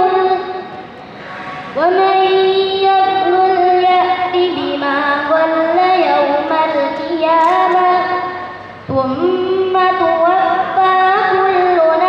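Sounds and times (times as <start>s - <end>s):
woman chanting melodically: 0.0s - 0.8s, 1.6s - 12.0s.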